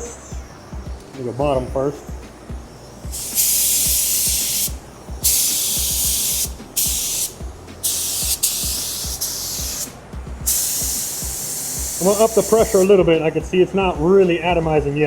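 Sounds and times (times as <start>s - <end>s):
paint spray gun hissing: 0.0s - 13.0s.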